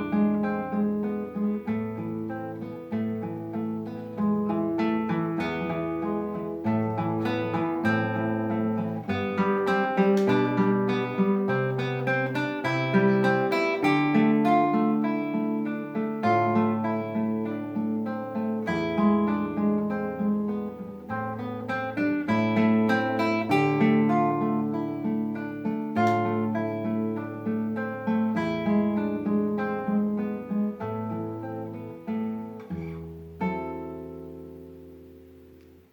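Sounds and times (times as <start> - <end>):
classical guitar arpeggios: 0.0 - 35.9.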